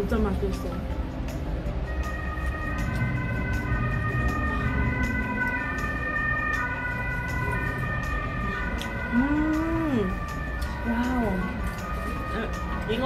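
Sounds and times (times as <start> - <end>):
two-tone ambulance siren: 1.7 - 13.0.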